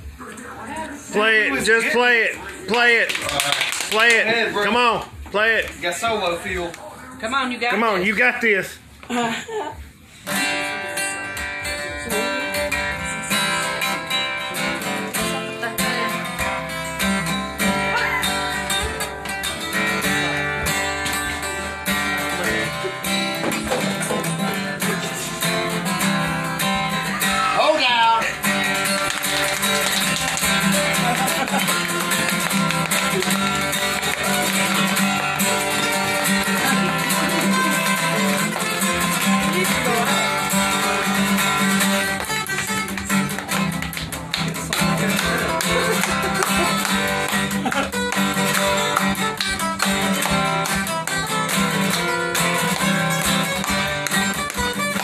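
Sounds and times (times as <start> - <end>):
acoustic guitar lead solo: 0.0 - 6.2, 10.1 - 55.0
strummed acoustic guitar chords: 9.8 - 55.0.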